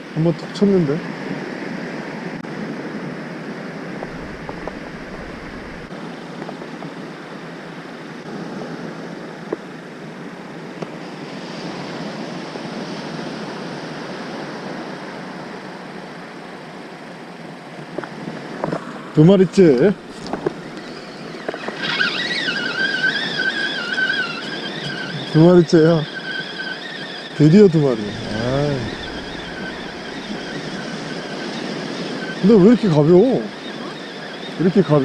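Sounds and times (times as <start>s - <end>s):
small waves breaking on a beach: 0.0s - 35.0s.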